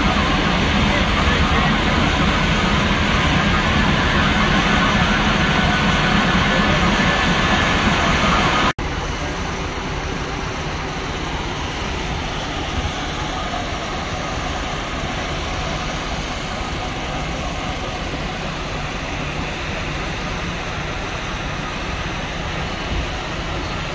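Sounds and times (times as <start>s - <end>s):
diesel engine rumbling: 0.0s - 23.9s.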